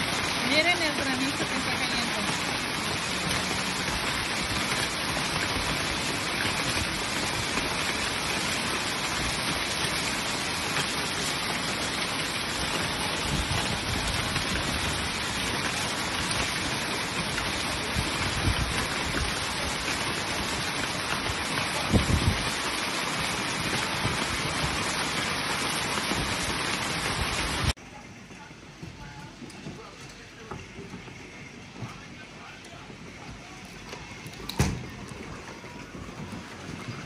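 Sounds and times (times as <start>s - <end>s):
rain and hail on pavement: 0.0s - 27.8s, 28.4s - 37.0s.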